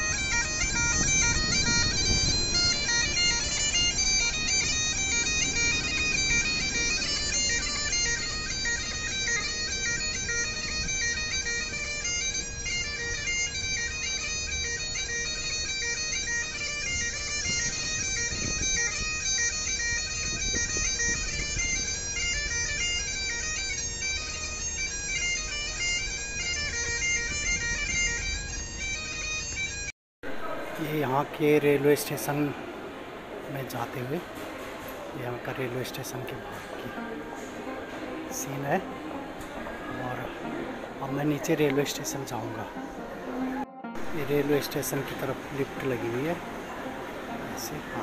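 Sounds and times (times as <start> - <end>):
bagpipes playing: 0.0 - 30.7, 32.0 - 48.0.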